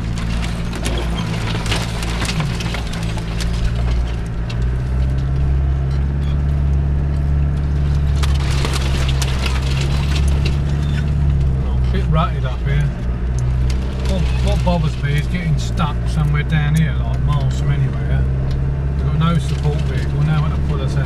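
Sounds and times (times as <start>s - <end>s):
branches scraping against car: 0.0s - 21.0s
diesel engine running: 0.0s - 21.0s.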